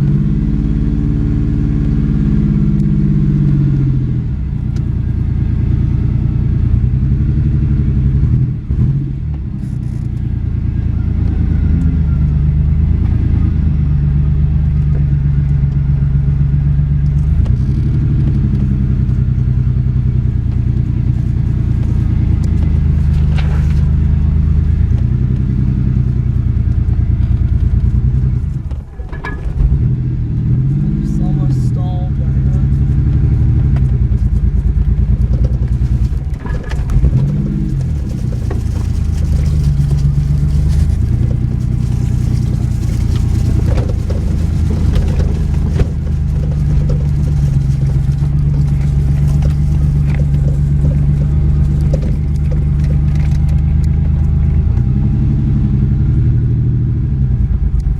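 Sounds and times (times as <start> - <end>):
car engine revving while driving: 0.0 - 28.7, 29.6 - 57.9.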